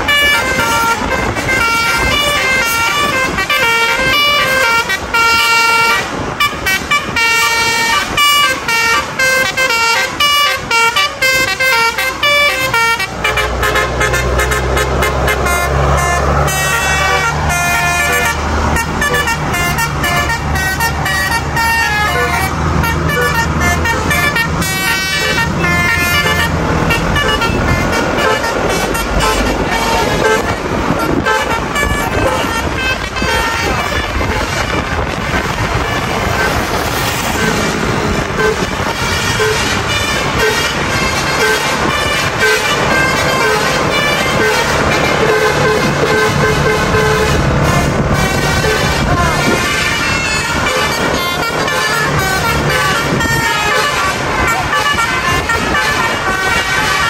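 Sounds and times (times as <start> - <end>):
deep engine rumble: 0.0 - 57.0
musical horns playing: 0.0 - 57.0.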